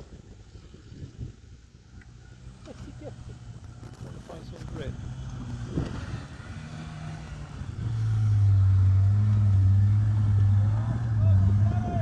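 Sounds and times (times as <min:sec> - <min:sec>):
car engine running under load: 0:01.7 - 0:12.0.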